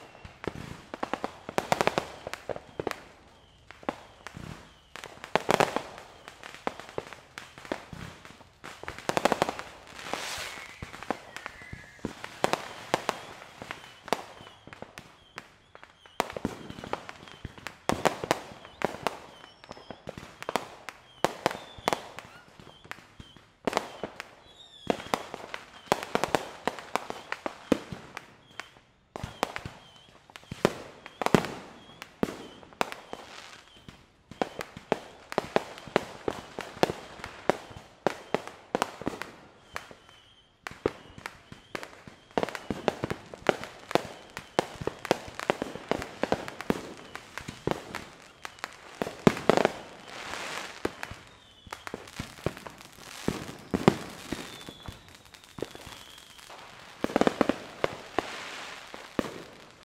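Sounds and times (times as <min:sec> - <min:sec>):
firework crackling pops: 0:00.0 - 0:59.9.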